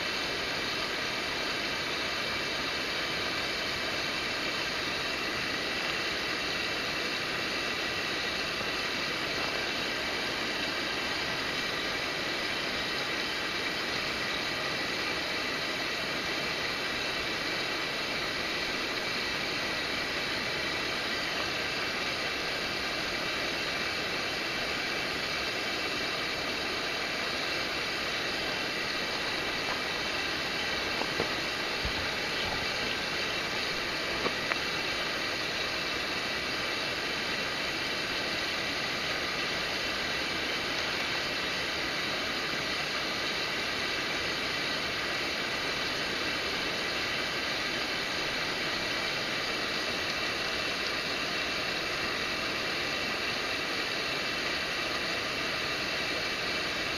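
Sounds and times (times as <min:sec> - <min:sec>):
stream water rushing: 0:00.0 - 0:56.9.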